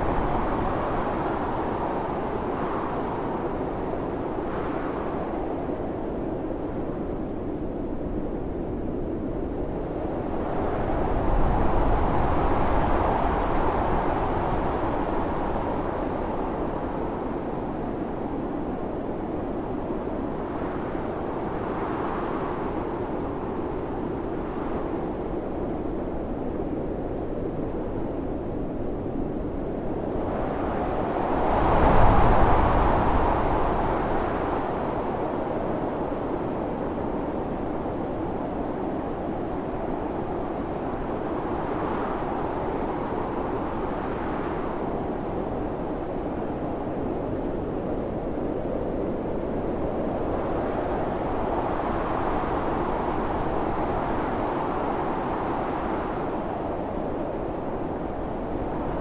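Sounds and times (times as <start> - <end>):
heavy blizzard wind: 0.0 - 59.0.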